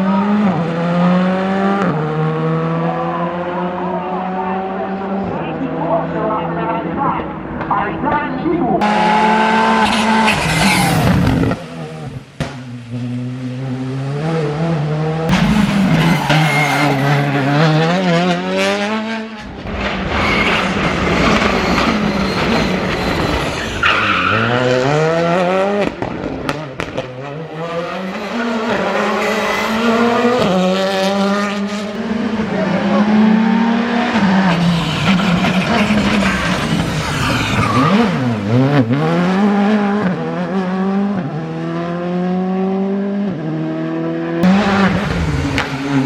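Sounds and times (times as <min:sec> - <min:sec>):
rally car engines accelerating: 0:00.0 - 0:46.0.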